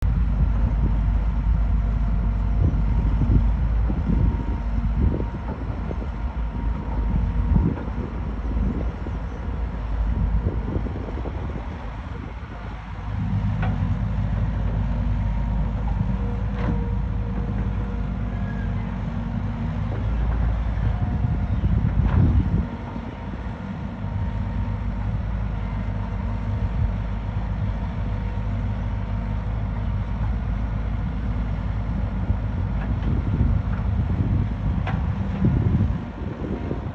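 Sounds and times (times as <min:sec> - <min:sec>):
bulldozer diesel engine running: 0:00.0 - 0:36.9.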